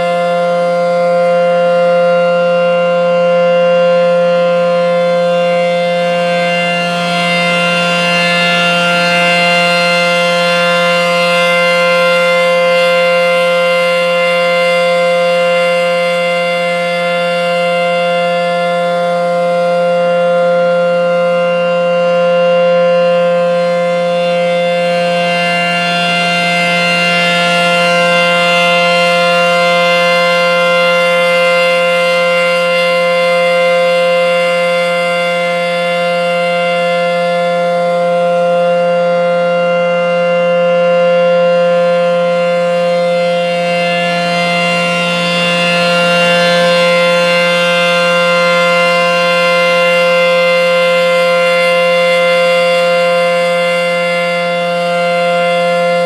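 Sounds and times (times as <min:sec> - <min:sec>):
warning siren steady chord: 0:00.0 - 0:56.0.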